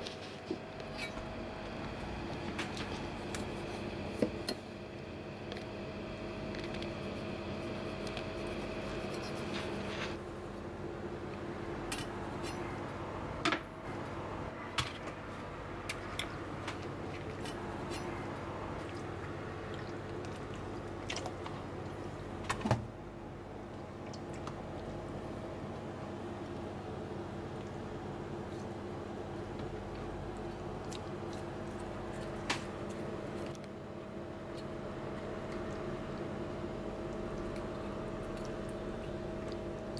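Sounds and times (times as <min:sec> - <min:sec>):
kitchen hum: 0:00.0 - 0:39.9.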